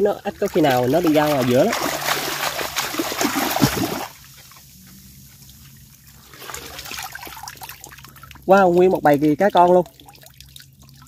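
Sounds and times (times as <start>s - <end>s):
water splashing: 0.0s - 11.0s
water trickling and dripping: 0.0s - 11.0s.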